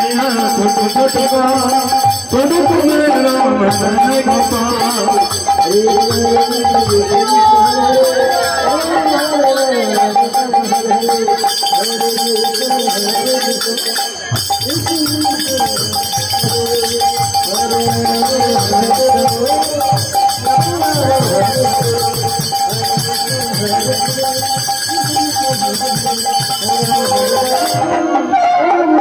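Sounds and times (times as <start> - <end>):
drum playing fast strokes: 0.0 - 28.1
jingling percussion: 0.0 - 29.0
steady held tone: 0.0 - 29.0.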